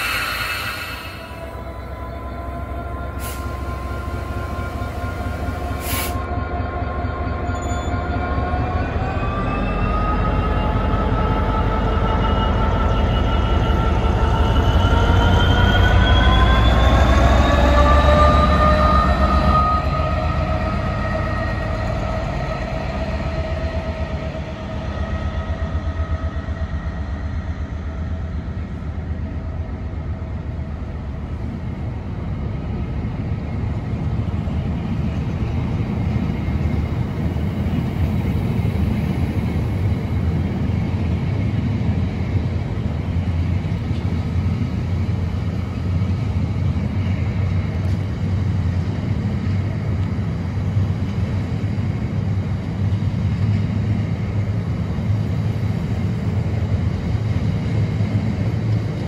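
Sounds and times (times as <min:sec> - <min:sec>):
diesel locomotive passing: 0:00.0 - 0:59.0.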